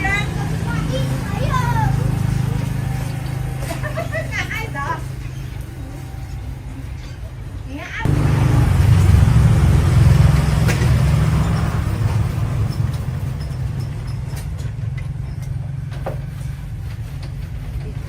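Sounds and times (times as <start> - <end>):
engine pulsing rumble: 0.0 - 18.0.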